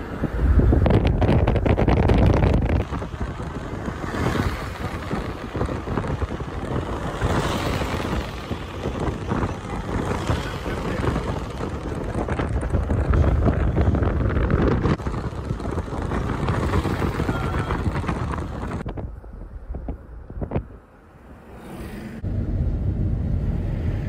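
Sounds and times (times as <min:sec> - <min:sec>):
wind buffeting microphone: 0:00.0 - 0:20.9
engine and road rumble: 0:00.0 - 0:24.0.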